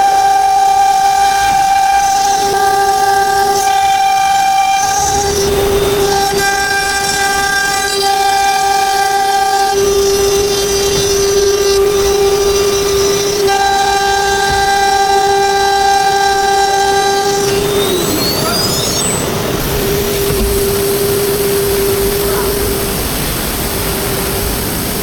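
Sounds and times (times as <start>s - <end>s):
router spindle whine: 0.0s - 25.0s.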